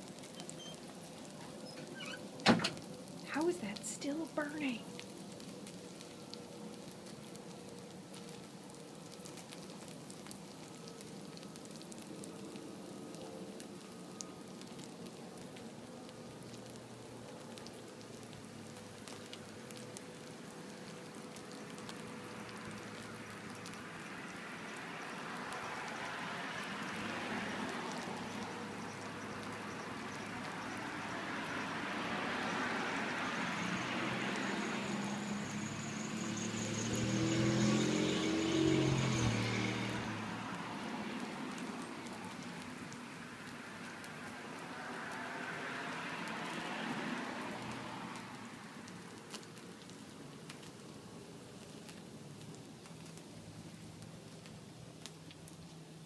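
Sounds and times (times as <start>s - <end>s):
candles burning crackling and hissing: 0.0s - 56.0s.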